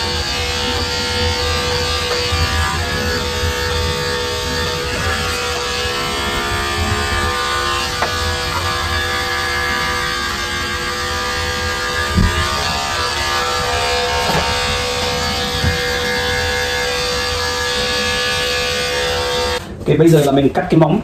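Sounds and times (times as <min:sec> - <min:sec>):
electric clipper buzzing: 0:00.0 - 0:19.7.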